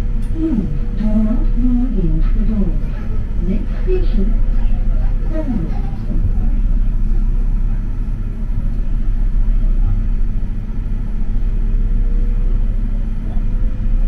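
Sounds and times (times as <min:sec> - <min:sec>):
light rail car rumble: 0:00.0 - 0:14.0.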